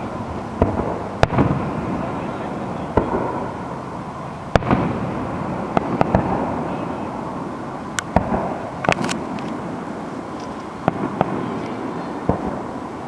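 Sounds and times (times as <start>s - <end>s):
continuous fireworks rumble: 0.0s - 13.0s
fireworks bangs: 0.0s - 13.0s.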